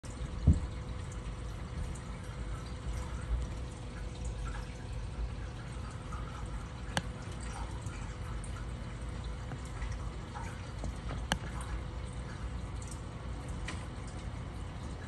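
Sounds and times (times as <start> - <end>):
aquarium pumps rumbling: 0.0 - 15.0
faint steady hum: 0.0 - 15.0
water trickling and dripping: 0.0 - 15.0.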